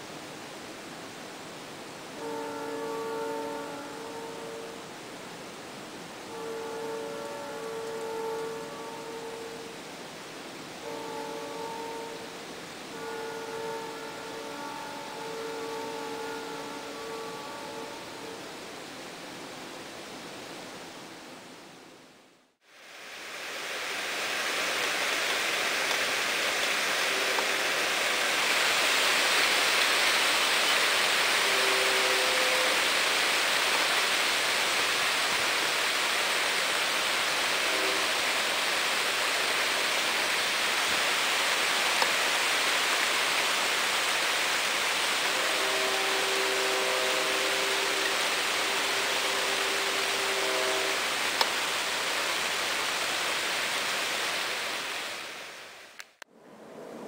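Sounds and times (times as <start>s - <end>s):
steady background hiss: 0.0s - 57.0s
distant train air horn: 2.1s - 18.8s, 24.1s - 55.5s.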